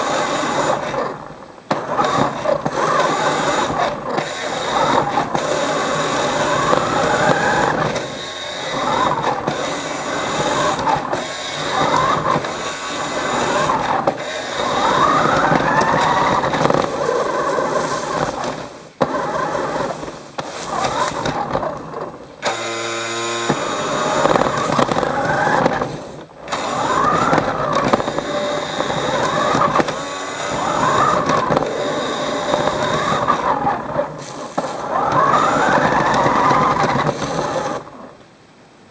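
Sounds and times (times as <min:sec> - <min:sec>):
wheels rattling on wooden floor: 0:00.0 - 0:38.0
toy car motor whining: 0:00.0 - 0:38.2.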